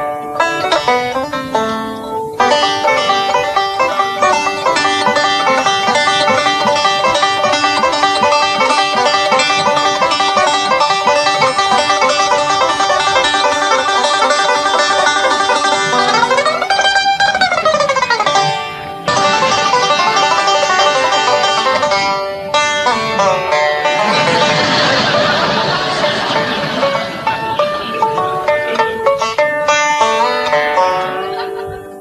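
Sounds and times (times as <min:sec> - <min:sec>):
music with rapidly picked notes: 0:00.0 - 0:32.0.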